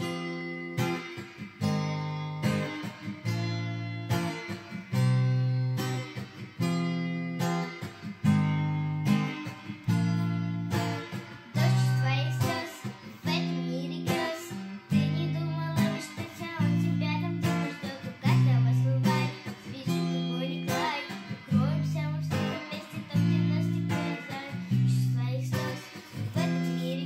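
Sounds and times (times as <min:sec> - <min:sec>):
acoustic guitar chords: 0:00.0 - 0:27.0
girl singing: 0:00.0 - 0:27.0.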